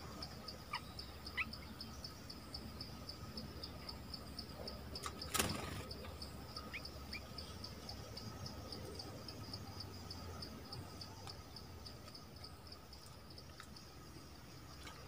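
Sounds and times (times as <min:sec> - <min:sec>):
insect chirping: 0:00.0 - 0:15.0.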